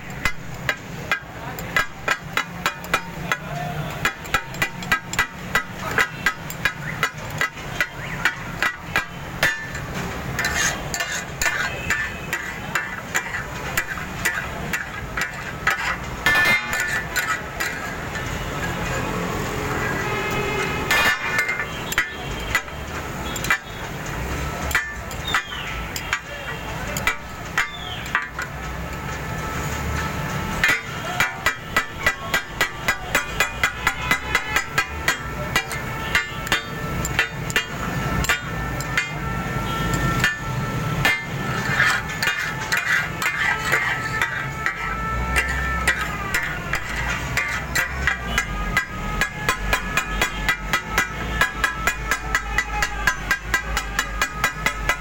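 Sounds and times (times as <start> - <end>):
steel spatulas striking griddle: 0.0 - 55.0.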